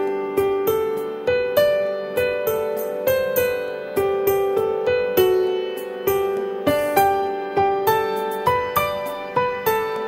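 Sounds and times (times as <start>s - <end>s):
gentle keyboard melody: 0.0s - 10.0s.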